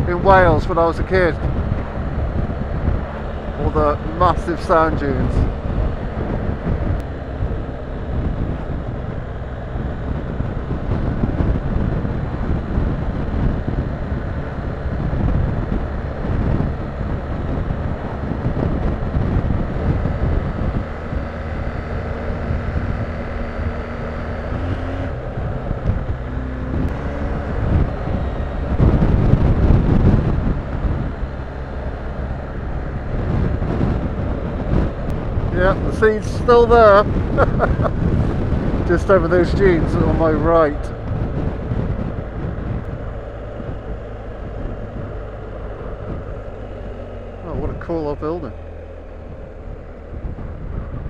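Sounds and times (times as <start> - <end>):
motorcycle engine running: 0.0 - 51.0
wind noise on microphone: 0.0 - 51.0.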